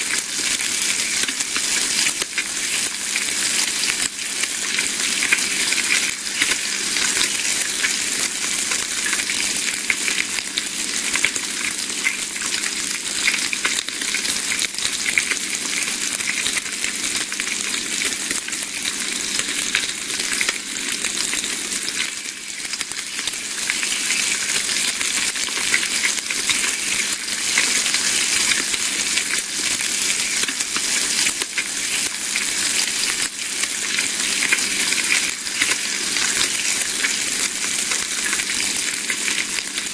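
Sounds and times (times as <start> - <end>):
bacon sizzling in a pan: 0.0 - 39.9.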